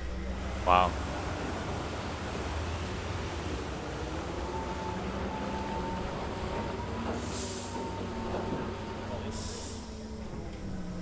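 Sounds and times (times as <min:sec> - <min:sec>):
vehicle engines running with whine: 0:00.0 - 0:11.0.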